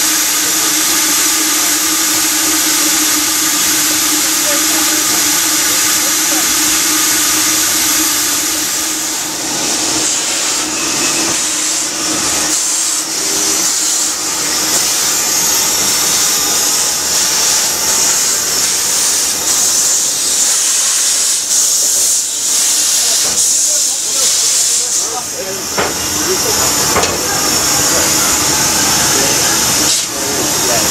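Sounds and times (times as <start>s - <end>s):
steam blowing hard: 0.0s - 30.9s
steam locomotive hissing: 0.0s - 30.9s.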